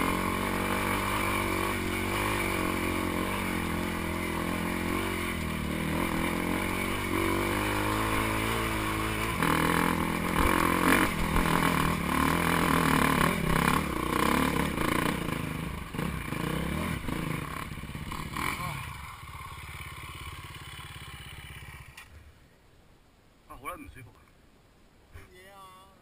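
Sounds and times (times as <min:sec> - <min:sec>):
dirt bike engine running: 0:00.0 - 0:22.1.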